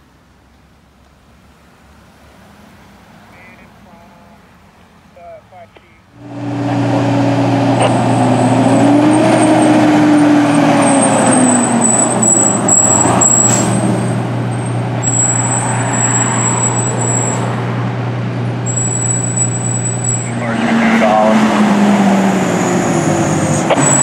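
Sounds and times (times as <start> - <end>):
fire truck diesel engines: 0.0 - 24.0
tyre and road noise: 0.0 - 24.0.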